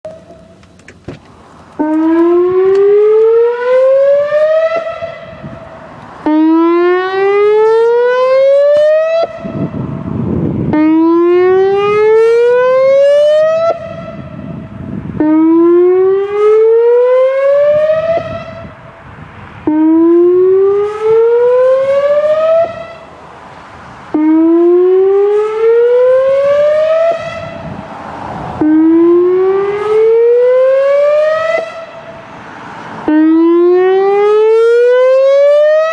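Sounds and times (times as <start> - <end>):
warning siren whoop: 1.8 - 23.3, 24.1 - 35.9.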